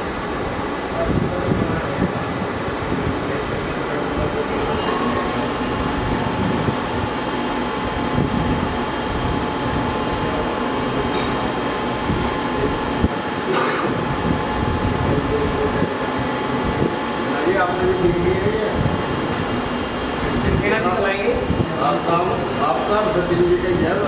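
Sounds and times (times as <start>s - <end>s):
high-pitched whine: 0.0s - 24.0s
lathe mechanical drone: 0.0s - 24.0s.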